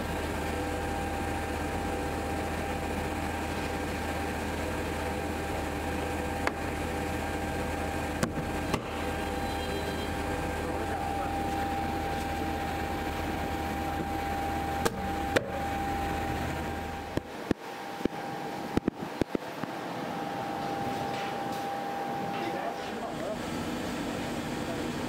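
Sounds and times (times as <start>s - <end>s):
factory machinery humming: 0.0s - 25.0s.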